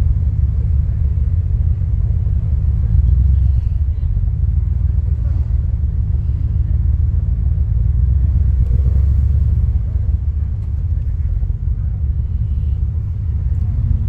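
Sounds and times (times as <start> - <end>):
car engine rumbling: 0.0 - 14.0
road noise: 0.0 - 14.0.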